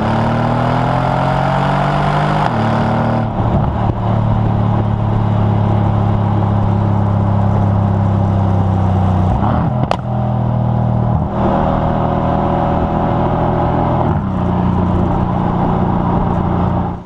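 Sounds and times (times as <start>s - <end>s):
car exhaust while driving: 0.0s - 17.0s.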